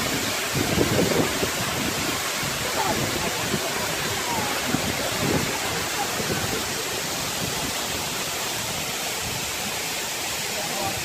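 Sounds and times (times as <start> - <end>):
waterfall rushing: 0.0 - 11.0
faint voices: 0.8 - 11.0.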